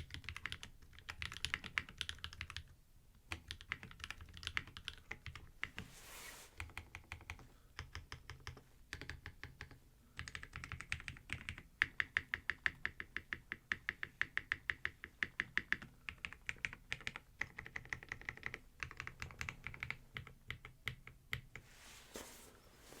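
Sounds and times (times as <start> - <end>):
mechanical keyboard typing: 0.0 - 2.7, 3.3 - 5.8, 6.6 - 21.6.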